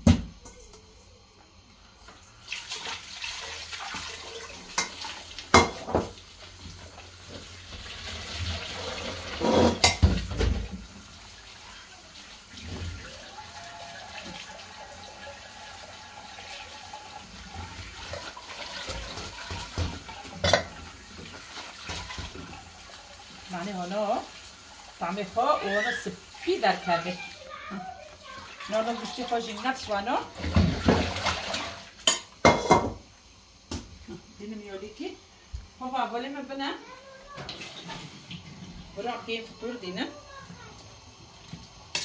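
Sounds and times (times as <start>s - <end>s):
tap water running onto grains: 0.0s - 42.0s.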